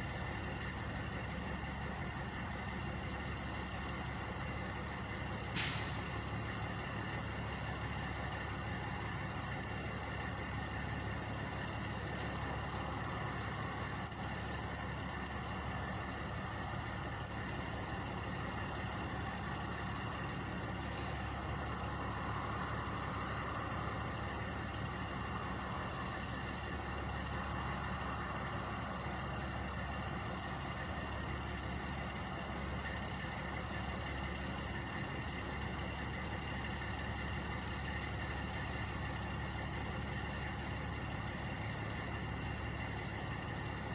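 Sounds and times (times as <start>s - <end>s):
truck engines idling: 0.0s - 43.9s.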